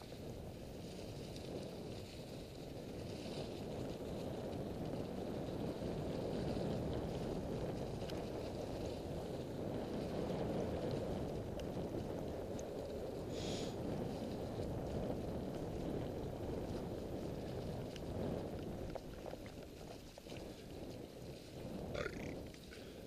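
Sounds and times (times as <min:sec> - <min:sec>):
bike tyres rumbling on leaves: 0:00.0 - 0:23.0
wind buffeting microphone: 0:00.0 - 0:23.0.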